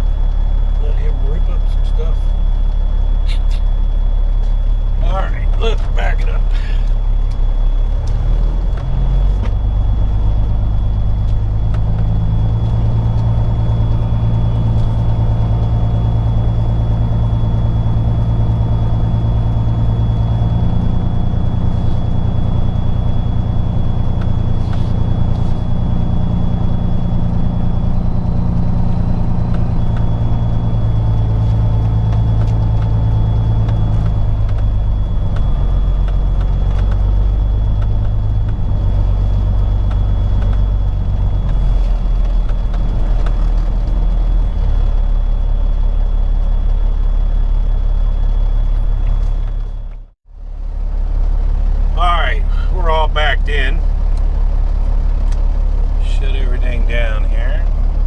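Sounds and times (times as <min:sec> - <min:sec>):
diesel truck engine at low revs: 0:00.0 - 0:58.0.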